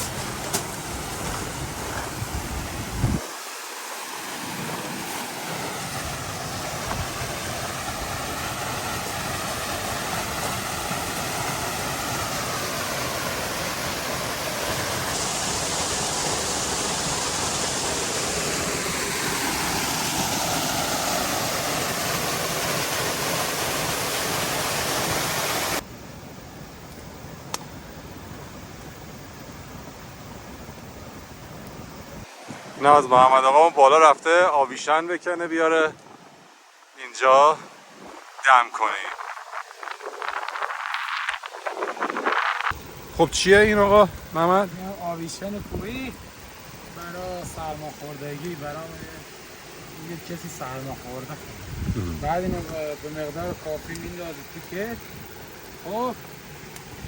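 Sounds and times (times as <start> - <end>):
stream water rushing: 0.0 - 26.0, 31.2 - 57.0.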